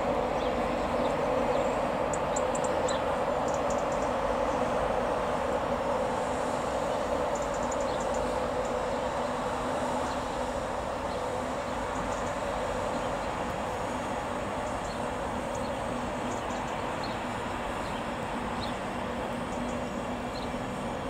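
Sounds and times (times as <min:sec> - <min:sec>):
electric locomotive hum and rumble: 0:00.0 - 0:21.0.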